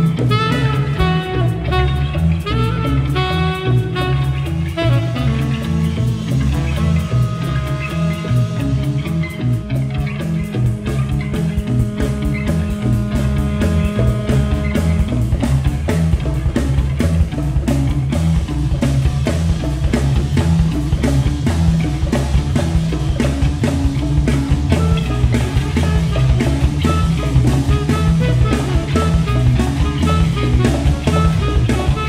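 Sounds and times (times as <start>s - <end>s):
bass guitar: 0.0s - 32.0s
drum kit beat: 0.0s - 32.0s
electric guitar: 0.0s - 32.0s.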